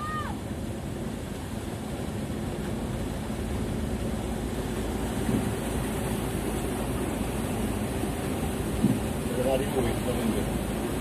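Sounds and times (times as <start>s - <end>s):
engine rumble: 0.0s - 11.0s
wind or rain noise: 0.0s - 11.0s.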